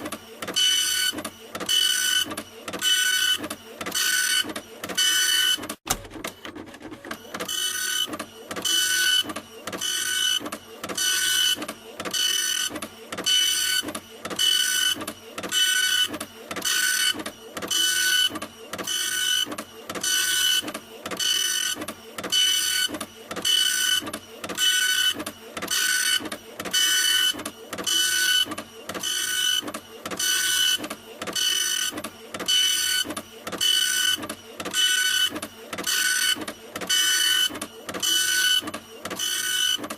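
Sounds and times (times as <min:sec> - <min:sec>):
printer mechanism whirring: 0:00.0 - 0:39.9.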